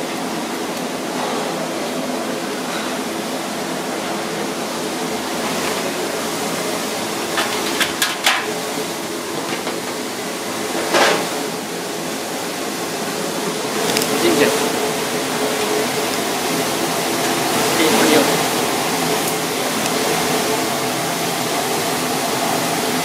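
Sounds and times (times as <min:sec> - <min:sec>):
kitchen rushing background noise: 0:00.0 - 0:23.0.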